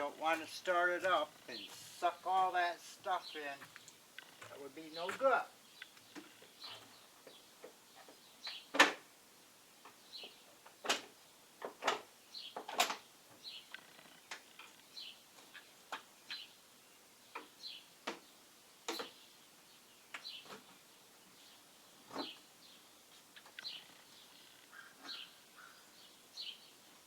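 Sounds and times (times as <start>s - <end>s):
small birds chirping faintly: 0.0s - 27.0s.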